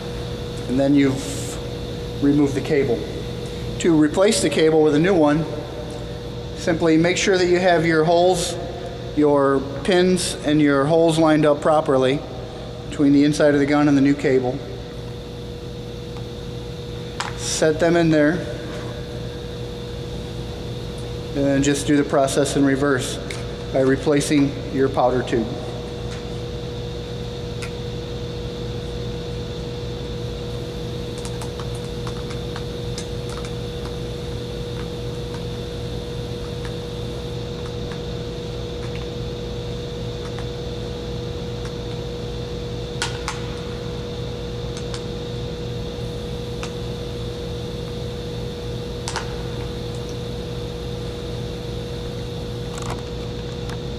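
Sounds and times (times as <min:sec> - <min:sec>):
exhaust fan drone: 0:00.0 - 0:53.9.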